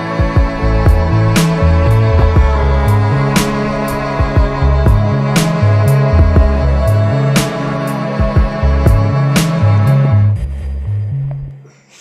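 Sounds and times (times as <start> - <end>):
background music with bass line: 0.0 - 11.7.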